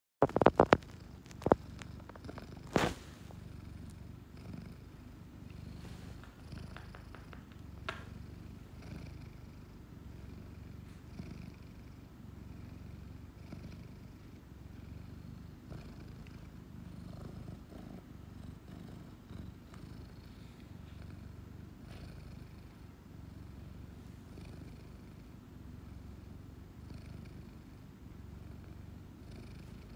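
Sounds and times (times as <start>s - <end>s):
cat purring: 0.2s - 29.9s.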